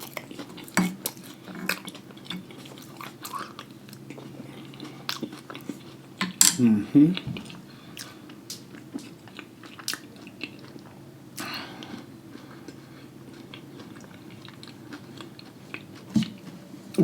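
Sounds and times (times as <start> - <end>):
wet chewing and mouth clicks: 0.0 - 6.4, 7.4 - 16.4
low steady hum: 0.0 - 17.0.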